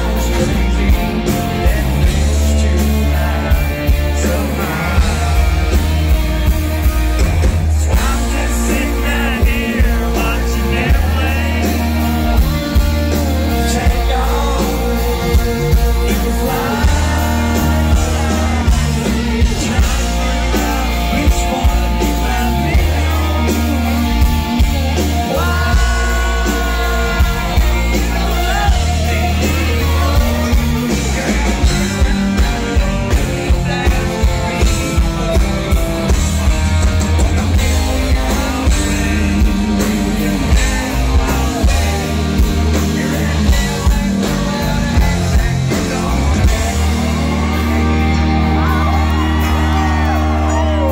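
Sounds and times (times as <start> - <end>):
man singing into a microphone: 0.0 - 6.9, 7.7 - 36.6, 37.4 - 50.9
live country rock band: 0.0 - 50.9.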